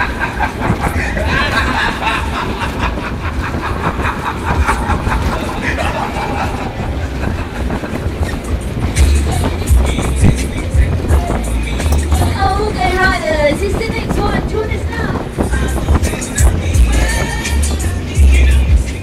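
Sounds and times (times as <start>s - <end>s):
fairground ride cars rumbling: 0.0s - 19.0s.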